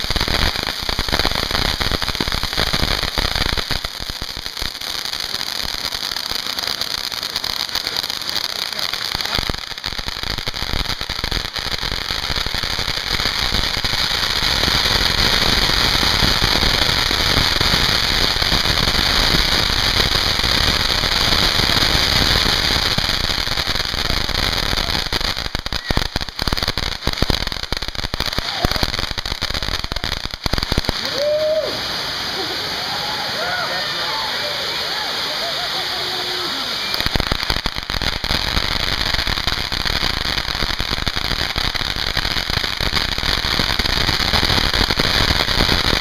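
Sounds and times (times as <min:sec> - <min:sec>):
fireworks crackling and popping: 0:00.0 - 0:46.0
ground fountain fireworks hissing: 0:00.0 - 0:46.0.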